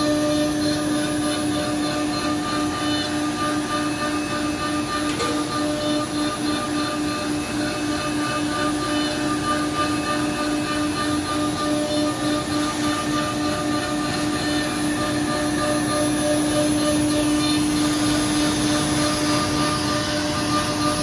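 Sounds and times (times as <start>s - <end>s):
router spindle high-pitched tone: 0.0s - 21.0s.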